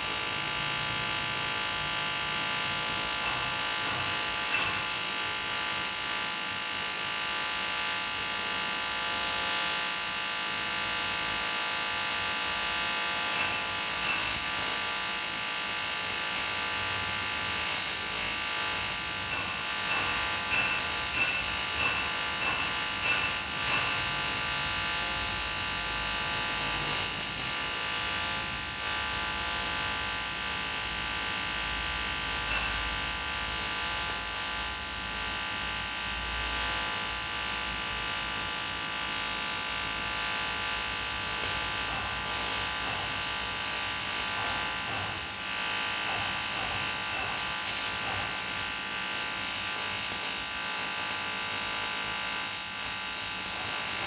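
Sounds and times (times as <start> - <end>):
welding arc buzzing and hissing: 0.0 - 54.0.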